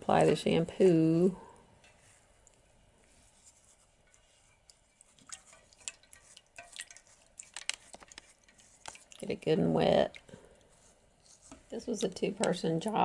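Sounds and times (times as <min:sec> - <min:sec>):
wet hair squishing by hand: 0:02.2 - 0:13.0.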